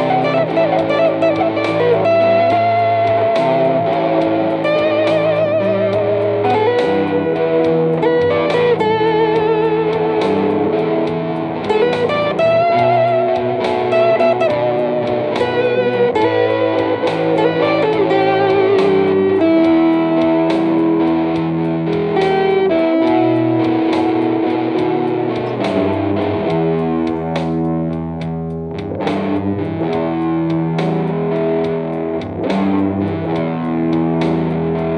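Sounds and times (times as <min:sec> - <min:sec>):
electric blues guitar: 0:00.0 - 0:34.9.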